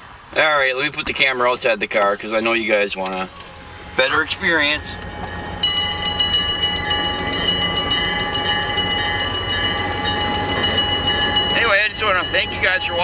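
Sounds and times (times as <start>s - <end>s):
railroad crossing bell ringing: 2.4s - 13.0s.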